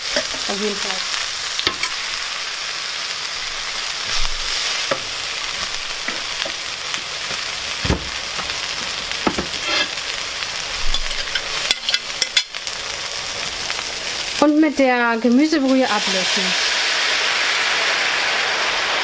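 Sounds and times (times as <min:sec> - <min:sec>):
onion sizzling in a frying pan: 0:00.0 - 0:19.0.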